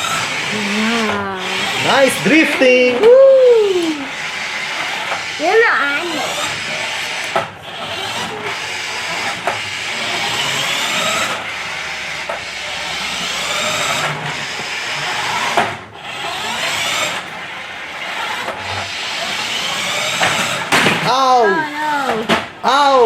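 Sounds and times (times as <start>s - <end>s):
toy car motor whirring: 0.0s - 23.0s.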